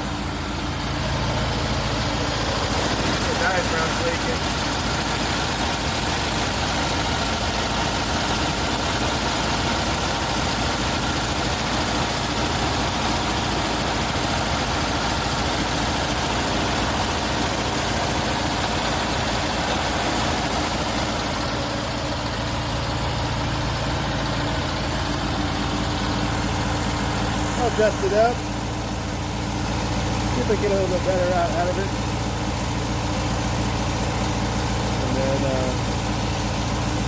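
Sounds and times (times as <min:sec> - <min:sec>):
pickup engine idling: 0:00.0 - 0:37.0.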